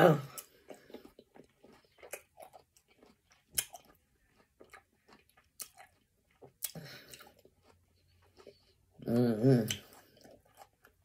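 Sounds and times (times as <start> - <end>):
chewing watermelon: 0.0 - 11.0.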